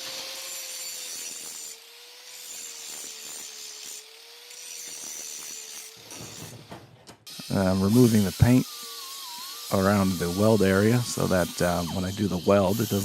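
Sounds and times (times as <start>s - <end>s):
angle grinder grinding metal: 0.0s - 13.0s.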